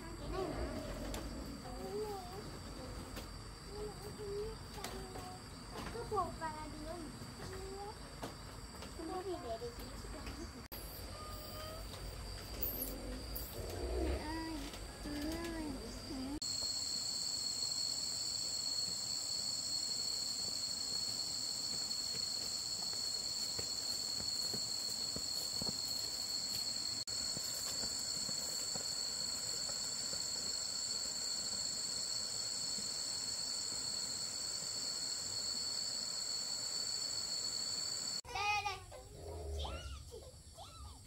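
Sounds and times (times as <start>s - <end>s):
insects droning in chorus: 0.0s - 41.0s.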